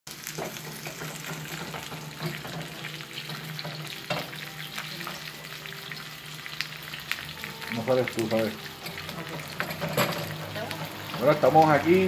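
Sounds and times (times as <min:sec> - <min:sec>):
chicken frying in hot oil: 0:00.1 - 0:12.0.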